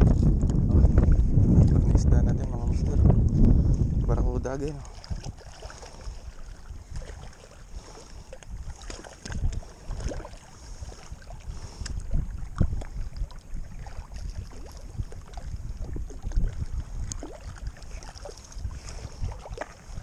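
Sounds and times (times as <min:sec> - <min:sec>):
seawater lapping against rocks: 0:00.0 - 0:20.0
wind buffeting microphone: 0:00.0 - 0:20.0.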